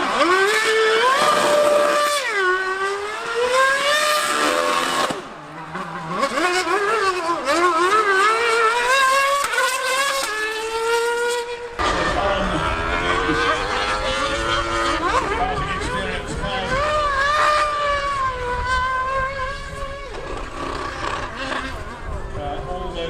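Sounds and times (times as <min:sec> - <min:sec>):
racing car passing: 0:00.0 - 0:23.0
superbike racing past: 0:00.0 - 0:23.0.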